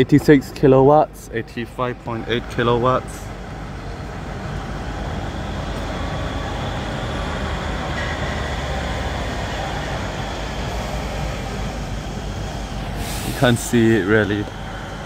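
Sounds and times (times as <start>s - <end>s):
cooling fans whirring: 0.0s - 15.0s.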